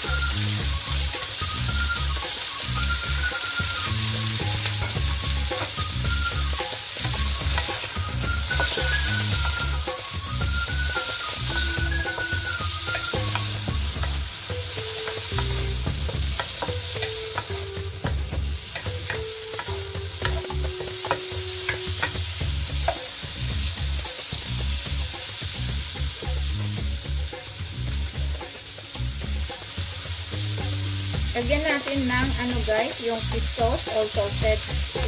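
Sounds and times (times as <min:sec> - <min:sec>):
quiet background music: 0:00.0 - 0:35.0
vegetables sizzling in hot oil: 0:00.0 - 0:35.0.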